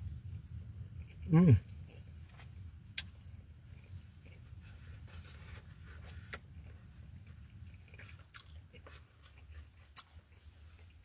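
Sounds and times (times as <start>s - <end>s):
low steady hum: 0.0s - 11.0s
person chewing with mouth closed: 1.0s - 11.0s.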